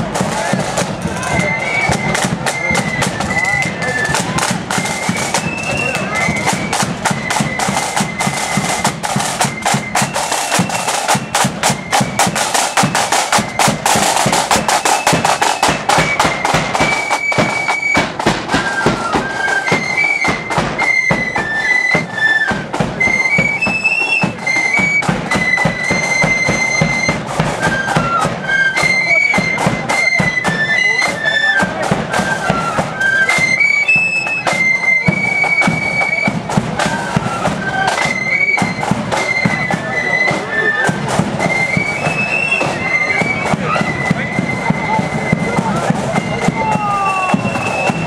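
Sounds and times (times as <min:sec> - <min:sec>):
high flute melody: 0:00.0 - 0:48.0
side drums beating: 0:00.0 - 0:48.0.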